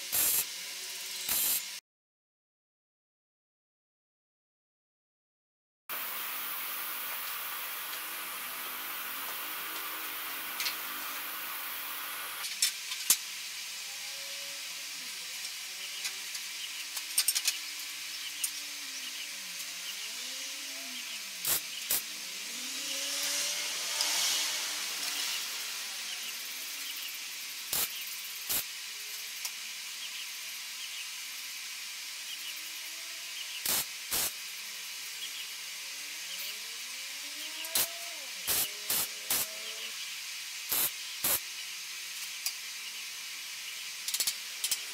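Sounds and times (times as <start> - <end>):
arc welding: 0.0 - 1.8, 5.9 - 44.9
steady hiss: 0.0 - 1.8, 5.9 - 44.9.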